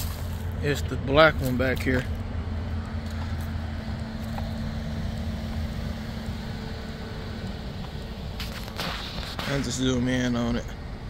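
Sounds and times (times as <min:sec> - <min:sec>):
faint steady hum: 0:00.0 - 0:11.0
low rumble: 0:00.0 - 0:11.0.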